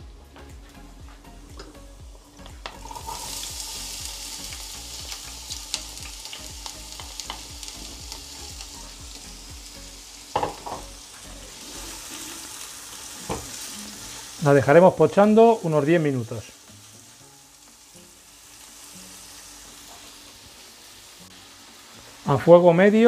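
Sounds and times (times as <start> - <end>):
onion sizzling in oil: 0.4 - 23.0.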